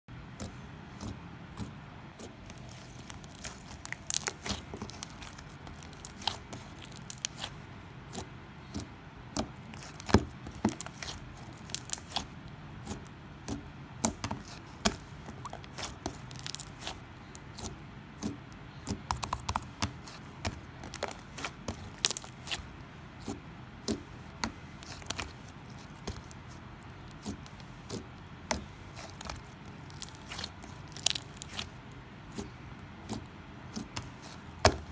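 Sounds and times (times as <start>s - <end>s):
crinkly craft material crackling: 2.2s - 8.3s, 9.6s - 13.0s, 14.1s - 17.7s, 19.1s - 34.9s.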